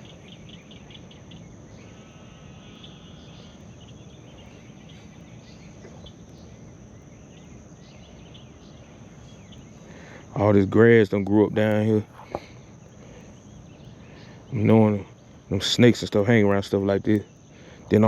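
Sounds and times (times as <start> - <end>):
bird chirps: 0.0 - 18.0
high insect drone: 0.0 - 18.0
rapid pulsing chirp: 0.0 - 18.0.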